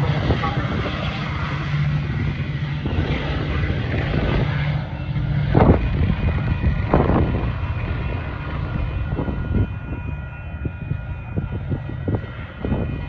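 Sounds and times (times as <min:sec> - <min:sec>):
low engine hum: 0:00.0 - 0:13.0
street traffic rumble: 0:00.0 - 0:13.0.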